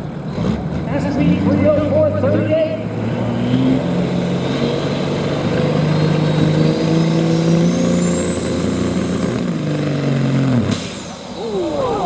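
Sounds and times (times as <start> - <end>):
diesel truck engine under load: 0.0 - 11.8.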